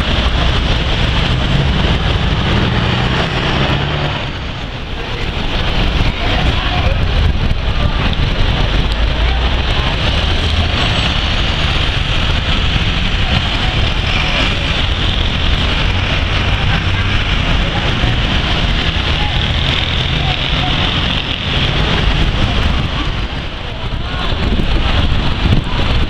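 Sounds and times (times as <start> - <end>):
traffic engine rumble: 0.0 - 26.0.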